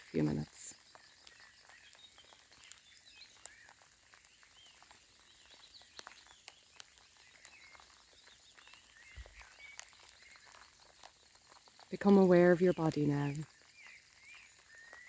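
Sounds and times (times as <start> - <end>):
birds chirping: 0.0 - 15.0
raindrops ticking: 0.0 - 15.0.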